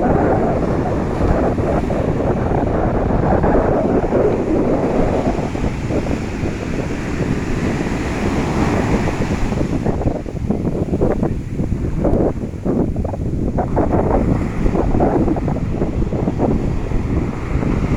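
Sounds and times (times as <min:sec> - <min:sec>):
sea waves washing in: 0:00.0 - 0:17.9
wind buffeting microphone: 0:00.0 - 0:17.9.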